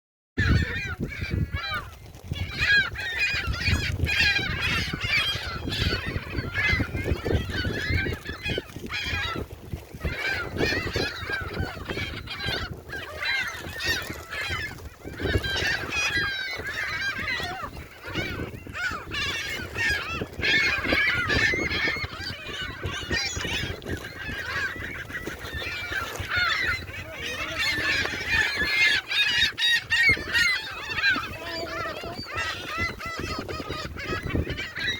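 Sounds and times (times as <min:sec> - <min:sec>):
gulls squawking: 0:00.4 - 0:34.9.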